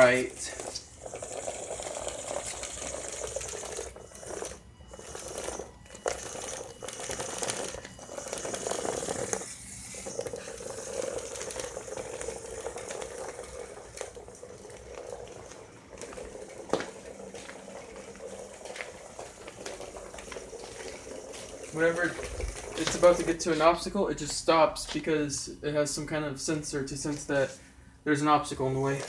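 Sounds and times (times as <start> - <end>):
robot motors whirring: 0.0 - 25.0.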